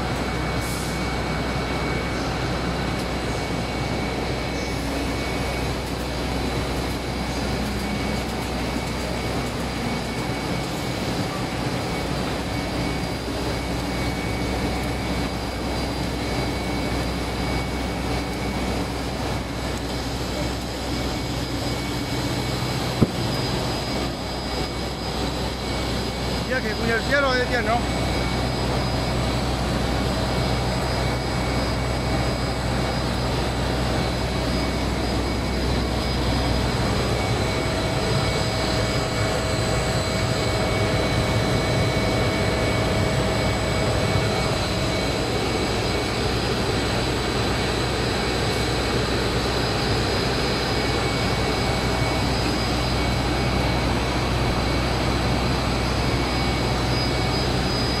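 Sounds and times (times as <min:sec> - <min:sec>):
machinery hum: 0:00.0 - 0:58.0
high whining tones: 0:00.4 - 0:58.0.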